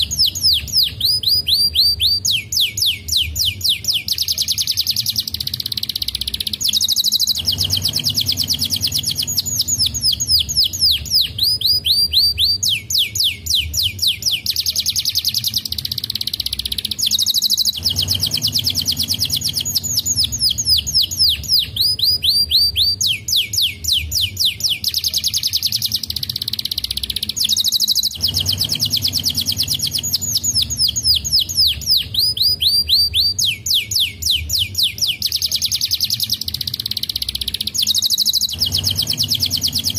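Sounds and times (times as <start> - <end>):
canary singing in trills: 0.0 - 39.9.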